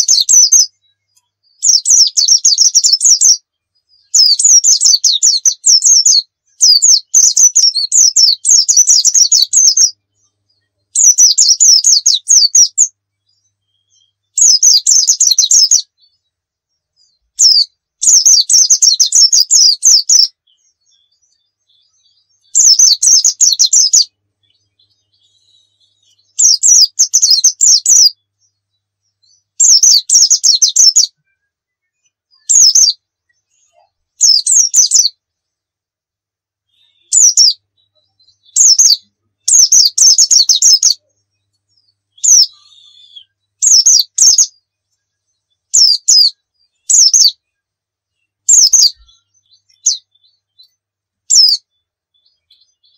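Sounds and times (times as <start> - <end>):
bird twittering: 0.0 - 16.2, 17.0 - 31.2, 32.0 - 35.2, 36.7 - 44.6, 45.7 - 47.4, 48.2 - 52.9.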